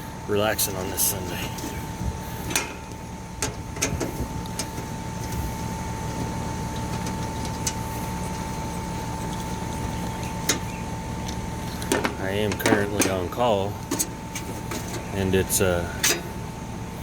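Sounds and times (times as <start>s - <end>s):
hum with thin high tone: 0.0s - 17.0s.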